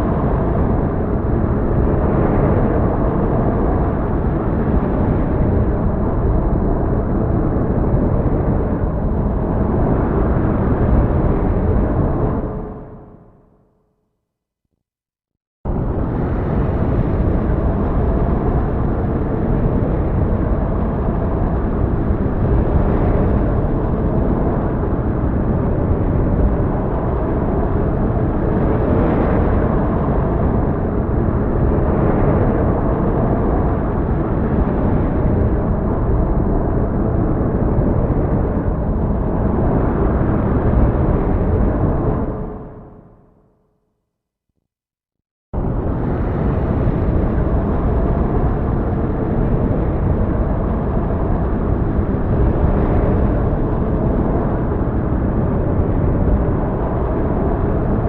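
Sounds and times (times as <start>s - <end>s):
deep rumbling storm noise: 0.0s - 13.5s, 15.7s - 43.4s, 45.6s - 58.0s.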